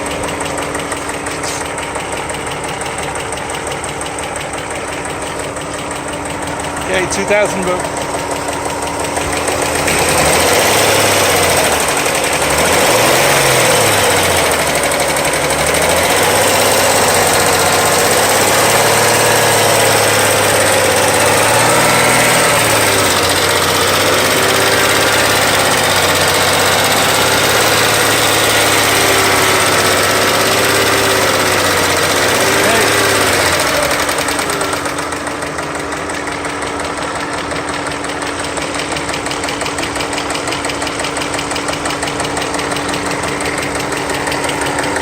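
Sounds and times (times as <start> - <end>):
car engine idling with ticking: 0.0 - 45.0
car engine revving: 0.0 - 45.0.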